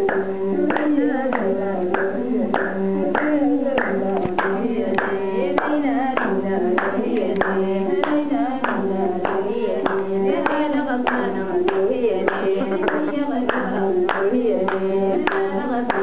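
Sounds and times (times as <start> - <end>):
hand-clapping: 0.0 - 16.0
women singing together: 0.0 - 16.0.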